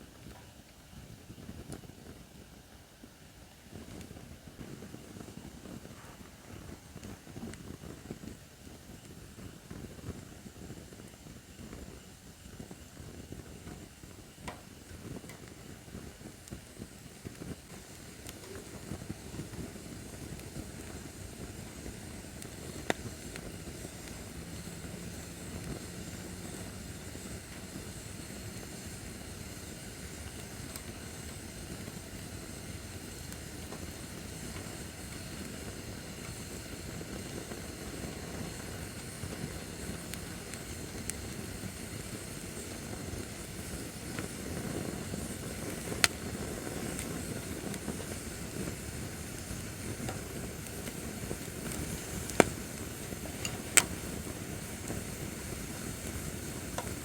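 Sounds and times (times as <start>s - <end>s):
fire crackling: 0.0s - 57.0s
rush of flames: 3.7s - 57.0s.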